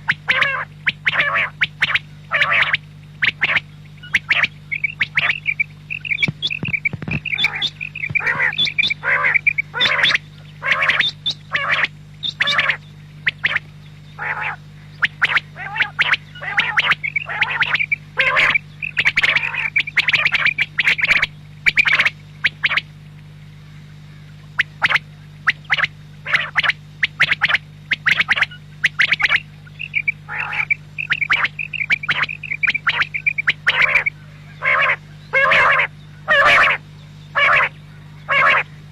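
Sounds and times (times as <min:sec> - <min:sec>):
quail calling: 0:00.0 - 0:22.8, 0:23.6 - 0:38.9
steady low hum: 0:00.0 - 0:38.9.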